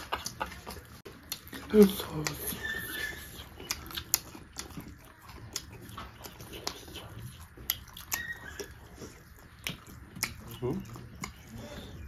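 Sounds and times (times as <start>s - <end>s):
people chewing and lip-smacking: 0.0s - 12.0s.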